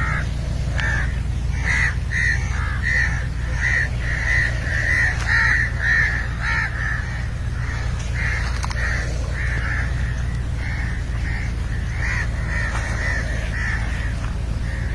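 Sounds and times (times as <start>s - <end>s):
bird repeated short calls: 0.0s - 14.9s
steady low hum: 0.0s - 14.9s.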